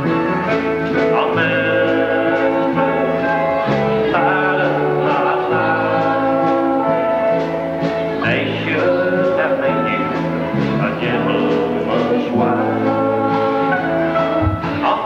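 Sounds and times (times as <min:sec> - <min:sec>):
acoustic guitar: 0:00.0 - 0:15.0
drums: 0:00.0 - 0:15.0
person singing long notes: 0:01.1 - 0:15.0.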